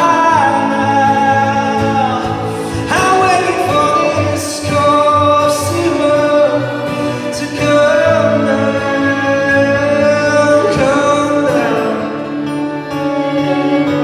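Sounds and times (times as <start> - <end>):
man singing a slow song: 0.0 - 12.9
instrumental accompaniment: 0.0 - 14.0.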